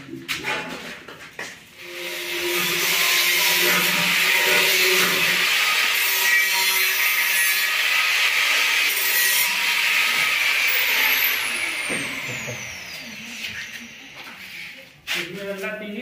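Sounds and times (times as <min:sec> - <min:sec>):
hacksaw sawing metal tube: 0:01.8 - 0:14.8.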